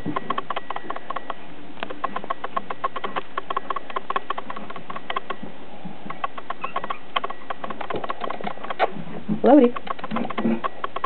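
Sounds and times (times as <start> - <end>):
puppies' claws clicking and scrabbling: 0.0 - 11.0.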